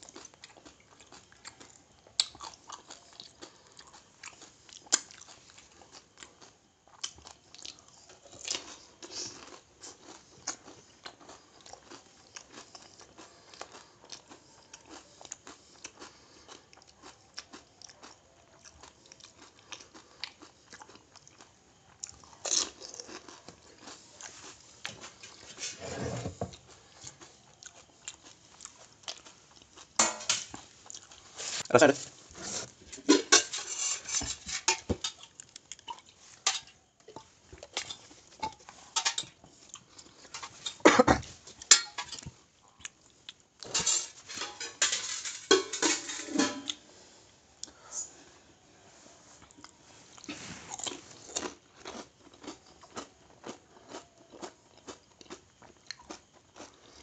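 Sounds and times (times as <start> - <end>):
crunching and chewing crisp shells: 0.0 - 25.8, 26.4 - 31.7, 32.6 - 47.8, 48.5 - 57.0.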